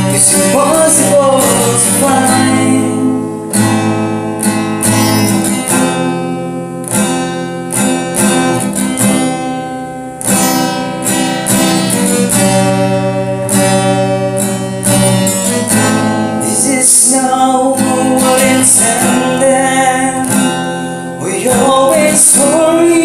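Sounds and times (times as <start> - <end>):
strummed acoustic guitar chords: 0.0 - 23.0.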